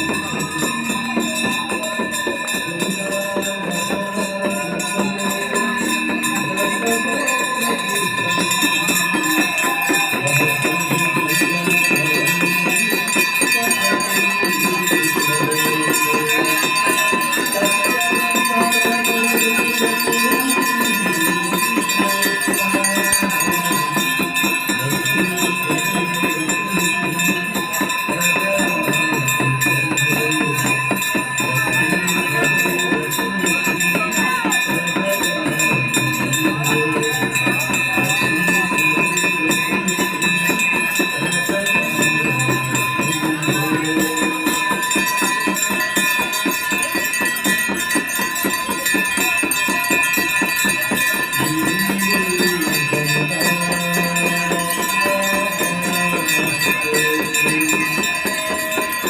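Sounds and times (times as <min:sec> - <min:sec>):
devotional song singing: 0:00.0 - 0:59.0
hand bells ringing fast: 0:00.0 - 0:59.0.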